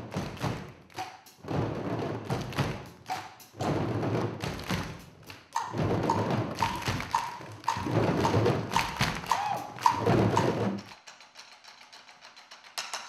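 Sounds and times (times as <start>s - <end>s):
hand drums beating: 0.0s - 11.0s.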